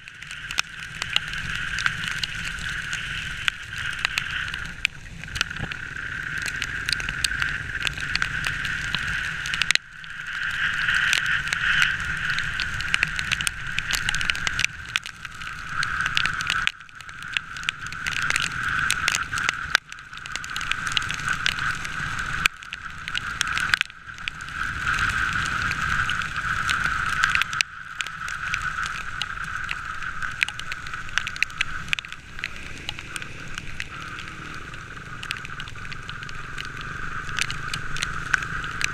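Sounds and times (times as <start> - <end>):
clicks and crackles: 0.0 - 38.9
wind and road noise: 0.0 - 38.9.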